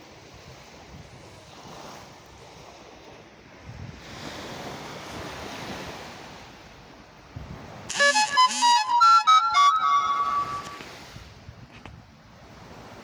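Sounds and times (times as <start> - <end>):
ocean waves surf hiss: 0.0 - 11.6.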